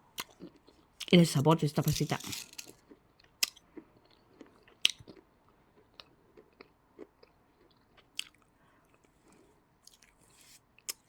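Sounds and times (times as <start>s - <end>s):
chewing with sharp crunches: 0.2s - 1.2s, 2.6s - 11.0s.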